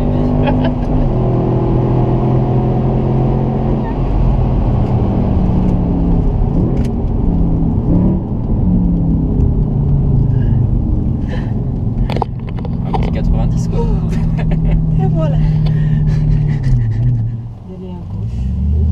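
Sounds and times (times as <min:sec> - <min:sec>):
car engine through loud exhaust: 0:00.0 - 0:18.9.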